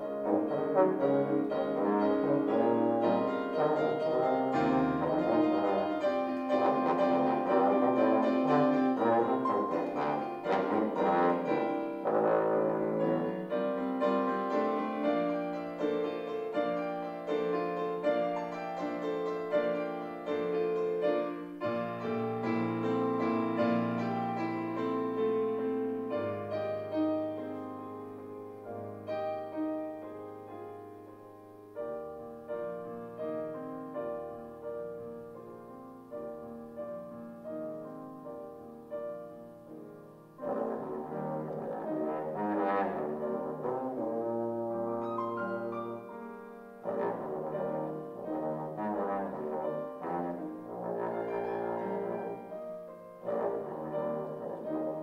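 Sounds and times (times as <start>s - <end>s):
trombone playing: 0.0s - 27.7s, 37.4s - 55.0s
piano playing: 0.0s - 55.0s.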